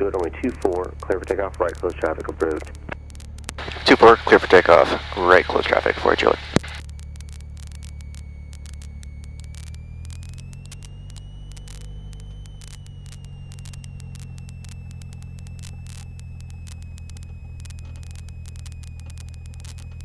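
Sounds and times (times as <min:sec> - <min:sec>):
faint clicks: 0:00.0 - 0:20.0
propeller plane engine running: 0:00.0 - 0:20.0
thin whine: 0:00.0 - 0:20.0.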